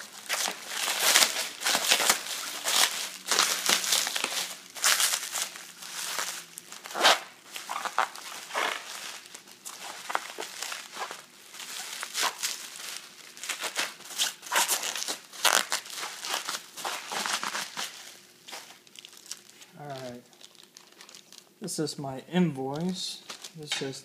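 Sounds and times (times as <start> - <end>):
plastic packaging crinkling: 0.0 - 21.6, 23.2 - 23.7.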